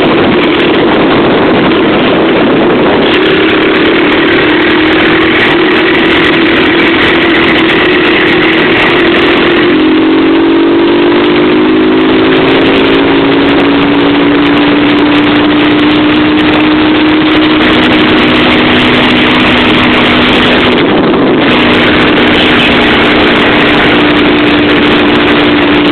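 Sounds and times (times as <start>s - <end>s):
loud rushing noise: 0.0s - 25.9s
motorcycle engines cruising: 0.0s - 25.9s.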